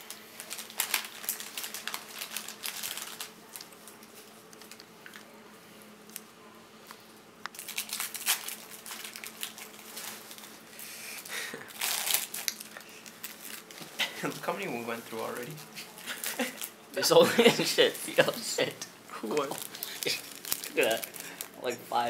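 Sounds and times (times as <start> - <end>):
plastic wrappers crinkling: 0.0 - 5.3, 7.5 - 16.8, 17.5 - 22.0
faint steady hum: 0.0 - 22.0.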